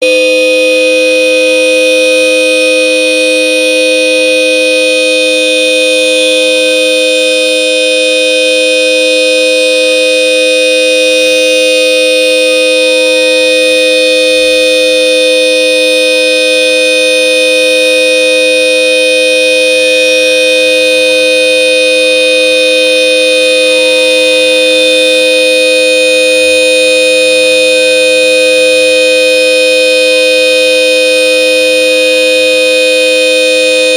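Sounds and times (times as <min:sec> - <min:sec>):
twin car horn blast: 0:00.0 - 0:33.9.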